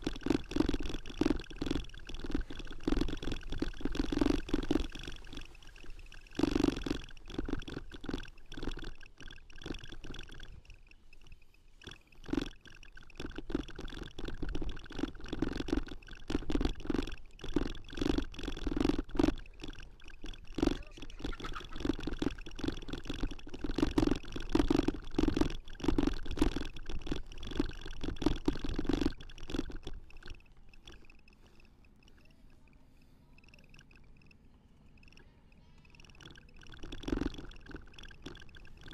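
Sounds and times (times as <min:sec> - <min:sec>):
camera knocking and rumbling: 0:00.0 - 0:38.9.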